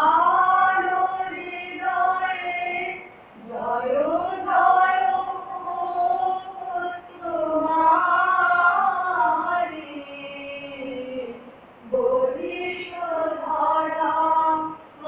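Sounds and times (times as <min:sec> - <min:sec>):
voices singing slow song: 0:00.0 - 0:15.0.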